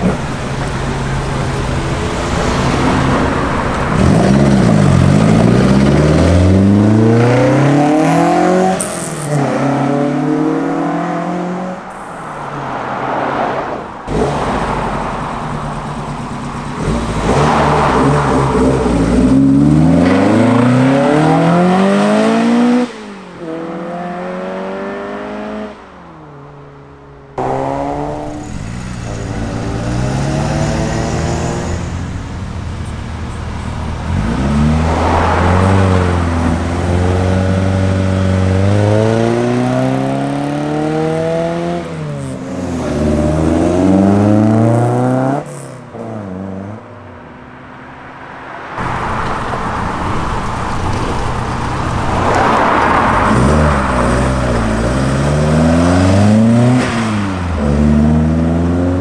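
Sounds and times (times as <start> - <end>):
cars accelerating away: 0.0 - 25.8, 27.4 - 46.8, 48.7 - 59.0.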